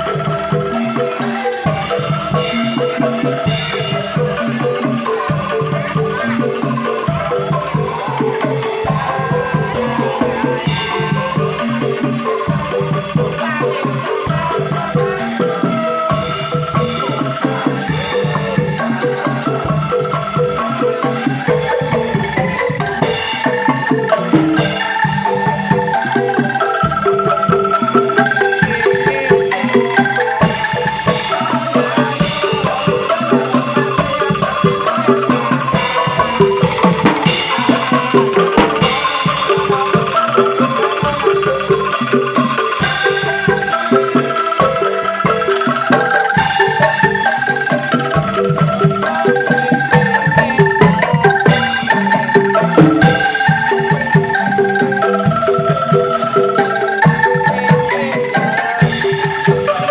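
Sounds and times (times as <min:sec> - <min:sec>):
bamboo tubes rattling notes: 0:00.0 - 0:59.9
steady drum beat: 0:00.0 - 0:59.9.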